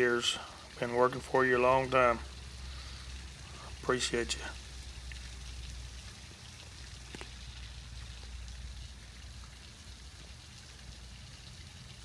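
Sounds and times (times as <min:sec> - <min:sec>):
waterfall splashing into pond: 0:00.0 - 0:12.0.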